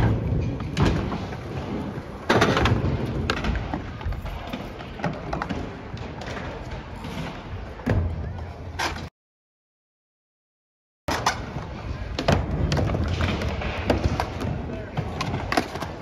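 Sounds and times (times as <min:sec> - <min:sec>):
skateboard wheels rolling on concrete: 0:00.0 - 0:09.1, 0:11.1 - 0:16.0.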